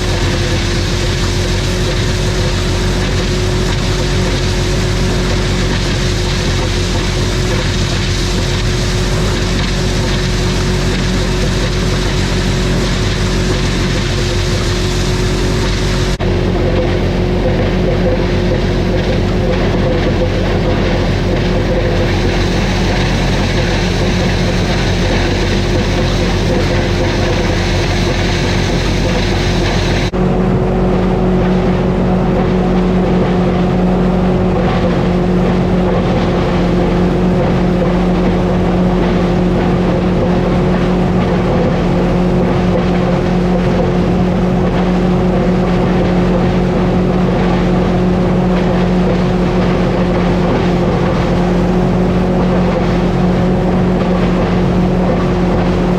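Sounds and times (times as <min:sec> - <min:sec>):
grinder-mixer grinding corn: 0:00.0 - 0:55.9
tractor diesel engine: 0:00.0 - 0:55.9.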